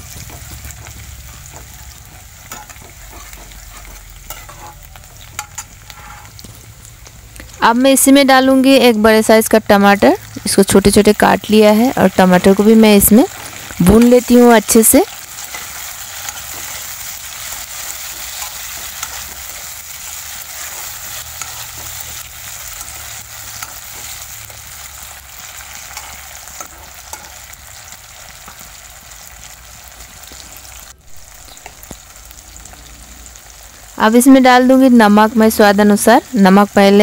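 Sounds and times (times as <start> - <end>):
crackles and pops of frying: 0.0 - 37.0
vegetables sizzling in hot oil: 0.0 - 37.0.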